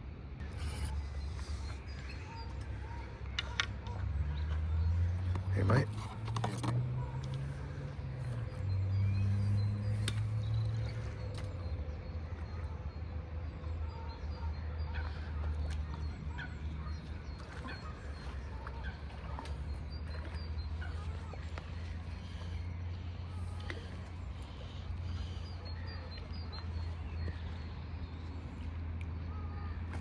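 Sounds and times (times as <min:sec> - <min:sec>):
birds chirping: 0:00.4 - 0:30.0.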